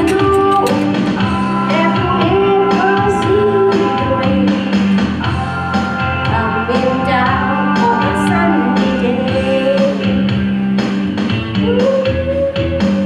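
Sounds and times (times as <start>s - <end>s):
woman singing karaoke: 0.0s - 10.4s, 11.6s - 13.0s
pop-rock backing track: 0.0s - 13.0s.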